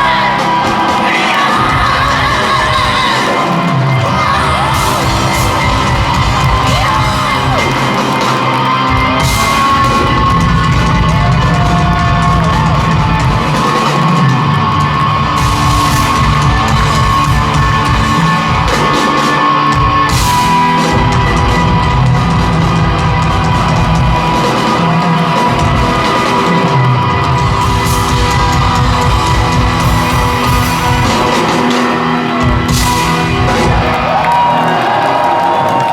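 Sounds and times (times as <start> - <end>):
crowd yelling: 0.0 - 35.9
rock band playing live: 0.0 - 35.9.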